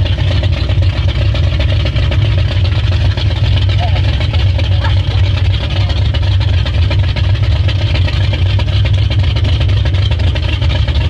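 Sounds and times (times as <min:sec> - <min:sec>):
speedboat engine droning: 0:00.0 - 0:11.0.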